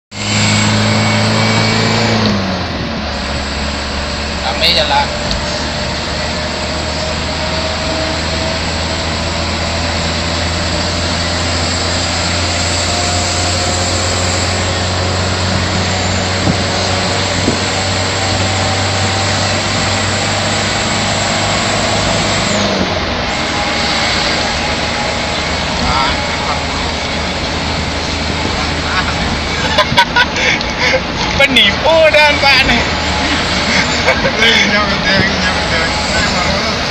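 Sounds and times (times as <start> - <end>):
road and wind noise: 0.1 - 36.9
truck engine drone: 0.1 - 36.9.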